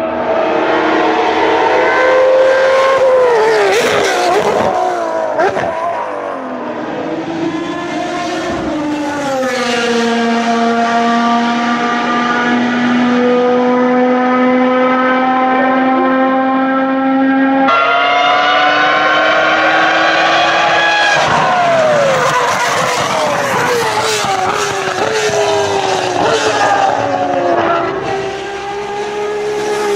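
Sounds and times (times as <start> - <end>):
race car engines revving: 0.0 - 29.9.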